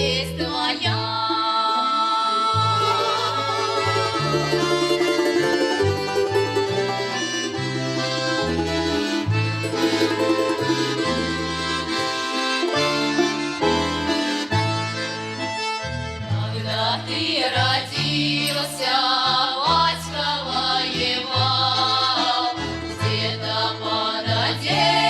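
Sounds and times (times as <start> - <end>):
accordion playing slow folk melody: 2.6 - 25.0.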